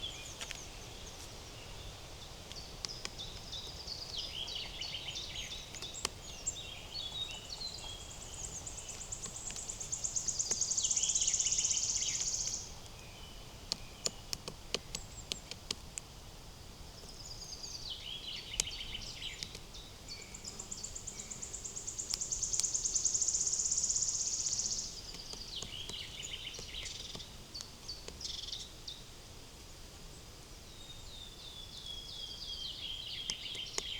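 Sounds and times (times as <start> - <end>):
songbird singing with fast trill: 0.0 - 15.6, 17.0 - 29.0, 30.7 - 33.9
faint forest background: 0.0 - 33.9.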